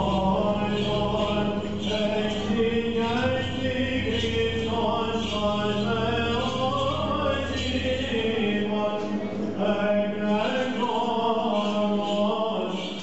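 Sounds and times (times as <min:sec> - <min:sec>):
chanted melody: 0:00.0 - 0:11.5.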